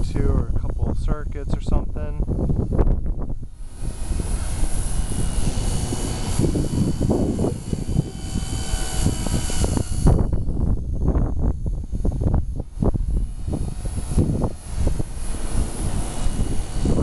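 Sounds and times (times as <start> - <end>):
helicopter rotor whine: 0.0 - 17.0
wind rumble on microphone: 0.0 - 17.0.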